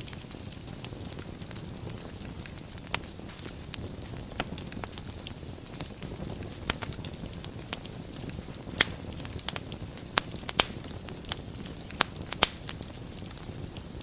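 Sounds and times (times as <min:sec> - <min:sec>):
fire crackling and popping: 0:00.0 - 0:14.0
fire rumble and hiss: 0:00.0 - 0:14.0.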